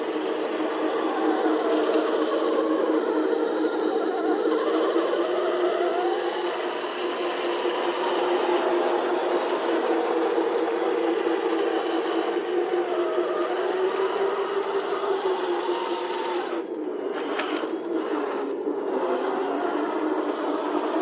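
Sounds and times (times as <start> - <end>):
toy tank droning hum: 0.0 - 21.0.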